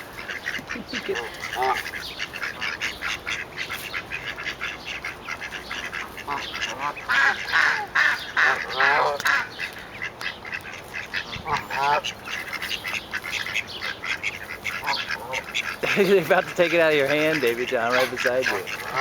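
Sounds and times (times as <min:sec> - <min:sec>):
ducklings peeping: 0:00.0 - 0:19.0
louder pitched duckling calls: 0:00.0 - 0:19.0.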